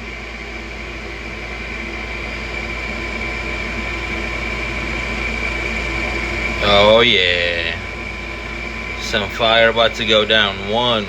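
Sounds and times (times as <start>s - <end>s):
furnace inducer motor humming: 0.0s - 11.0s.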